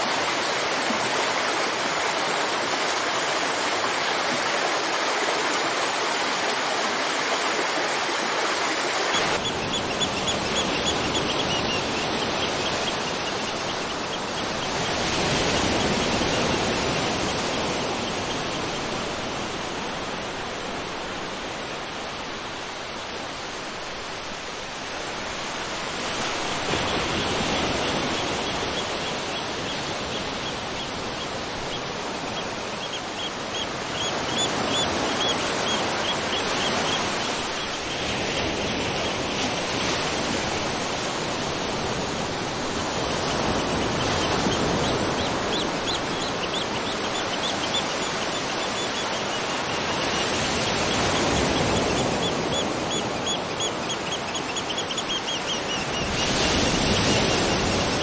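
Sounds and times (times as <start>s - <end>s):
waterfall rushing: 0.0s - 17.9s, 18.7s - 58.0s.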